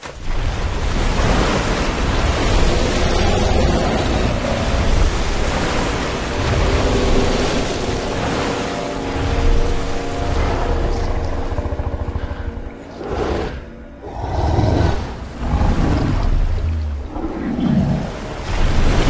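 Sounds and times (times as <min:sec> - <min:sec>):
rushing wind with deep rumble: 0:00.0 - 0:19.0.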